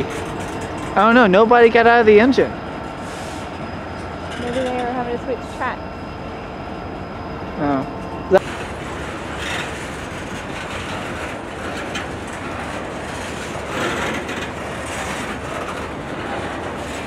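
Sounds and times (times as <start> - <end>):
rail clicks: 0.0 - 6.4, 7.8 - 17.0
train wheels rumbling on rails: 0.0 - 17.0.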